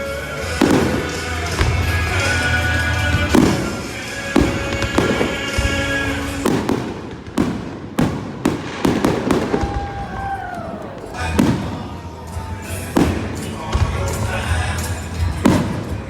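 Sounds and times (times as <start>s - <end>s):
faint music: 0.0s - 16.0s
fireworks bangs with rumbling echo: 0.0s - 16.0s.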